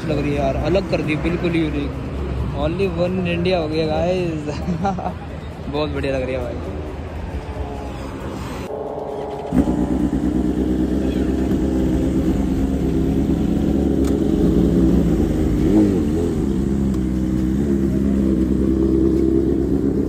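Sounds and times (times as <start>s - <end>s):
motorcycles idling: 0.0s - 20.0s.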